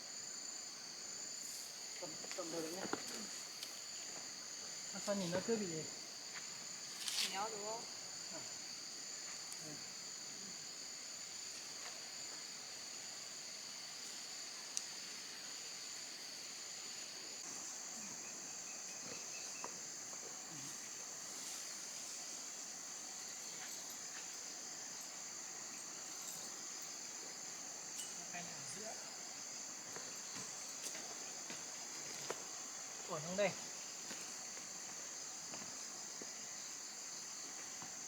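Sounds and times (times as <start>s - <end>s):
shrill insects chorus: 0.0s - 38.0s.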